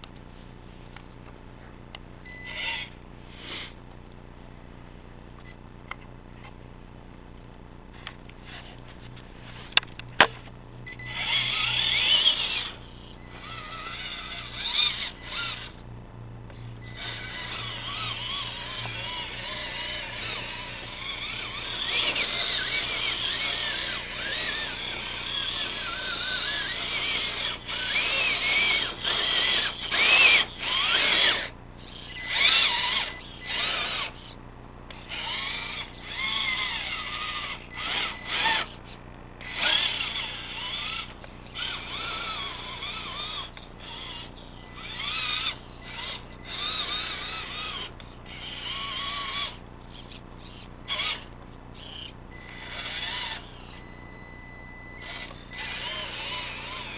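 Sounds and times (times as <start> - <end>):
electric motor whining: 2.3 - 3.8, 8.4 - 15.9, 16.5 - 56.9.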